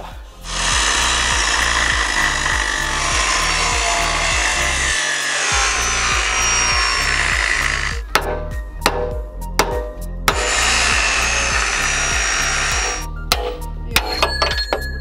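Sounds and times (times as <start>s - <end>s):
angle grinder cutting metal: 0.4s - 8.3s, 10.3s - 15.0s.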